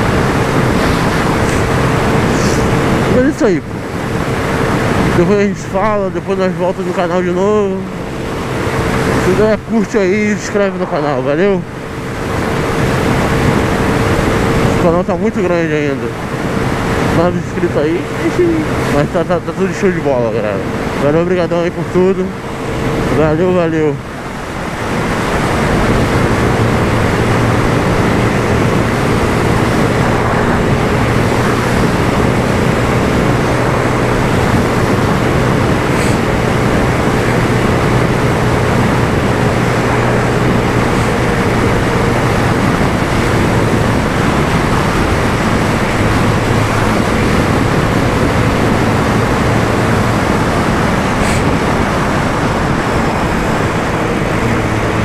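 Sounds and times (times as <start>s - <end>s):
motorcycle engine humming: 0.0s - 55.0s
wind and road noise: 0.0s - 55.0s.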